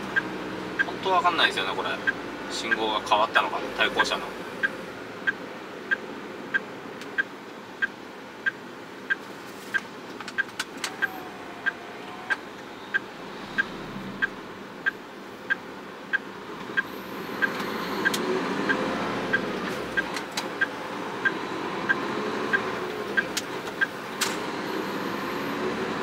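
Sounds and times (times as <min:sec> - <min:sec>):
truck diesel engine: 0:00.0 - 0:26.0
turn signal ticking: 0:00.0 - 0:26.0.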